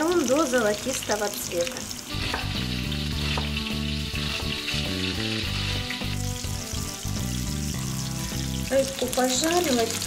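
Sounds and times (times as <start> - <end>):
background music: 0.0 - 10.0
fish frying in oil: 0.0 - 10.0.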